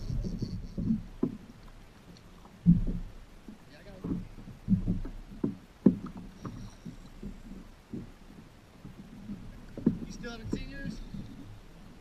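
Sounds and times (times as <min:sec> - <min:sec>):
low knocks and thumps: 0:00.0 - 0:12.0
small waves slapping a kayak hull: 0:00.0 - 0:12.0.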